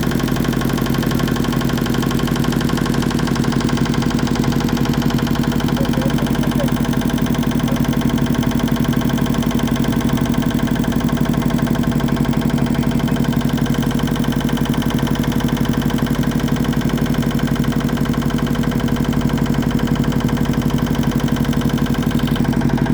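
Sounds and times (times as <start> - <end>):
motorboat engine chugging: 0.0 - 22.9.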